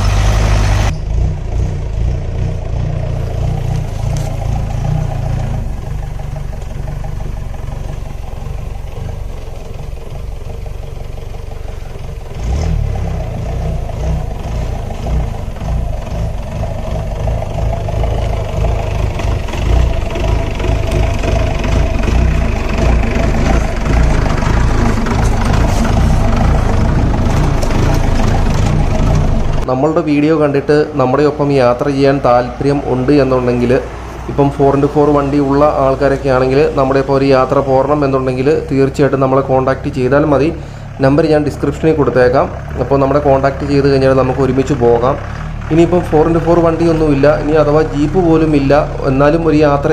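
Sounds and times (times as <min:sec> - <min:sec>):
jeep engine running: 0:00.0 - 0:49.9.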